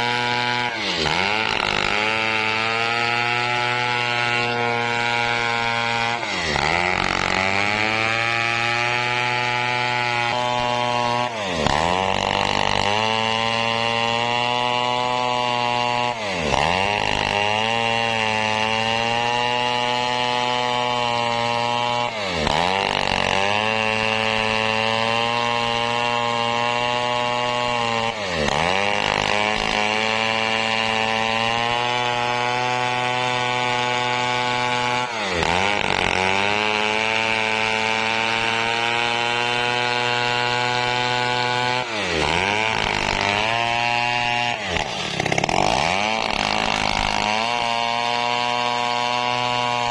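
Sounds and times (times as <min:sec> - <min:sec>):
chainsaw cutting log: 0:00.0 - 0:49.9.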